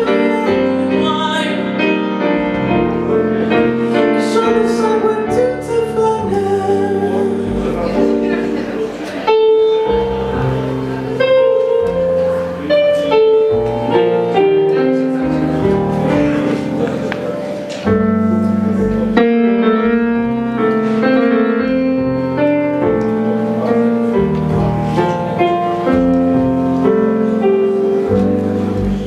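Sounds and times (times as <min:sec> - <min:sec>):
keyboard playing piano chords: 0:00.0 - 0:29.0.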